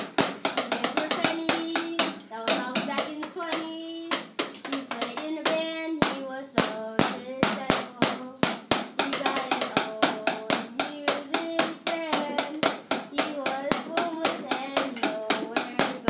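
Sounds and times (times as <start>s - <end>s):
tapping on desk with stick: 0.0s - 16.0s
child singing: 0.6s - 16.0s.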